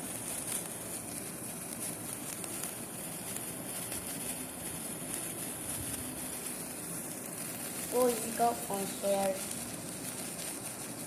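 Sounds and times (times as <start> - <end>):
fizzing hiss of homemade volcano: 0.0 - 11.0.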